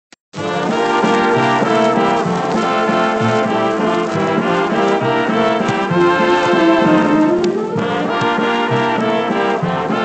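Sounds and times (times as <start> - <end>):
dance band waltz with brass: 0.4 - 10.0.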